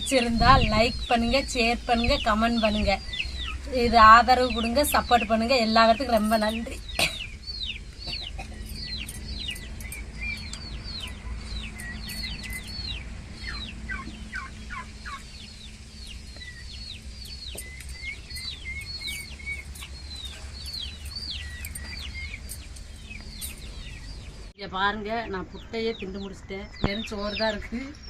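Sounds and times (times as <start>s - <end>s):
birds chirping: 0.0s - 28.0s
low steady hum: 0.0s - 28.0s.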